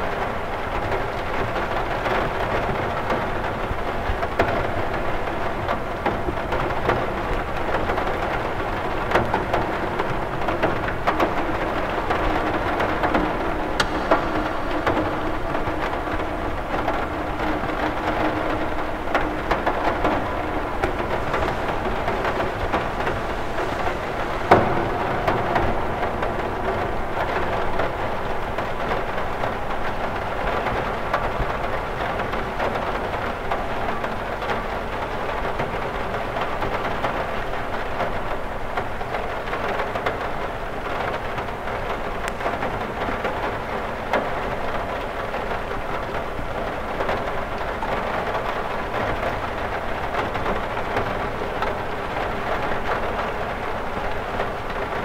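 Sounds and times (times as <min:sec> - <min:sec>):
rain on a window: 0:00.0 - 0:55.0.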